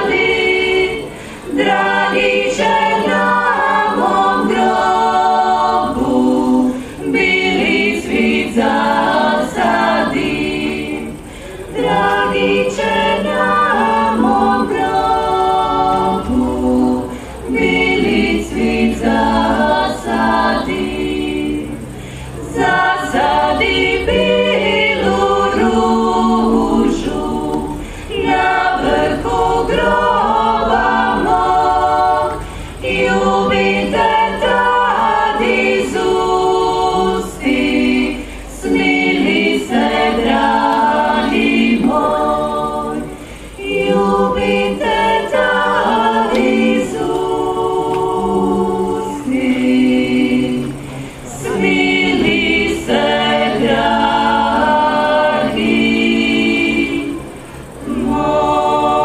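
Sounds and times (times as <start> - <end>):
women singing a cappella harmony: 0.0 - 59.0.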